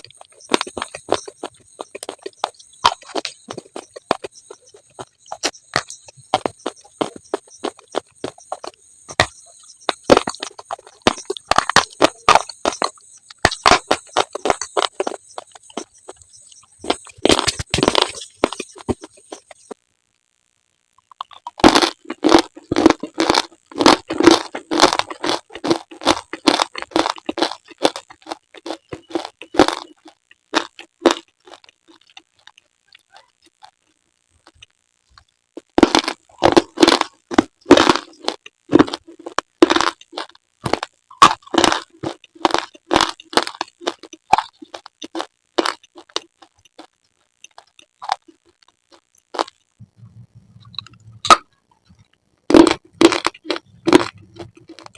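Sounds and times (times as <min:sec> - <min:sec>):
slate being chewed: 0:00.0 - 0:19.8, 0:21.1 - 0:33.8, 0:34.4 - 0:54.9.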